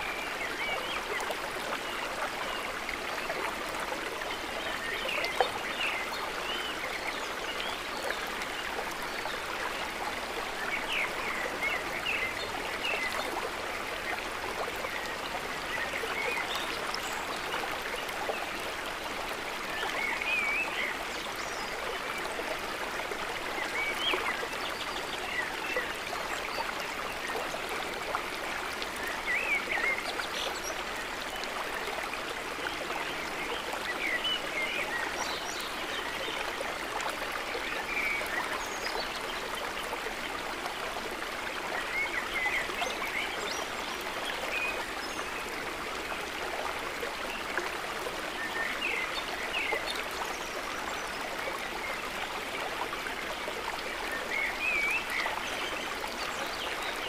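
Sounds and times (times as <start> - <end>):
water trickling and gurgling: 0.0 - 57.0.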